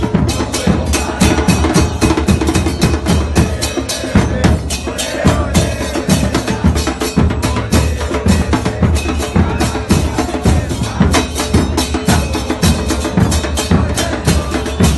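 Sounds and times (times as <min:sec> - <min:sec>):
bass drums and percussion beating: 0:00.0 - 0:14.9
crowd chanting: 0:00.0 - 0:14.9.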